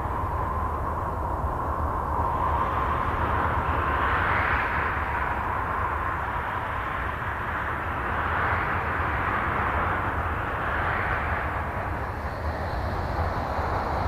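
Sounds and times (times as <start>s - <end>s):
faint steady tone: 0.0s - 14.0s.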